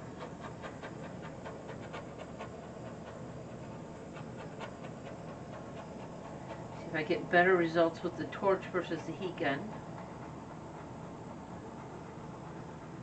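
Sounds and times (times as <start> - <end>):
faint irregular ticks: 0.2 - 13.0.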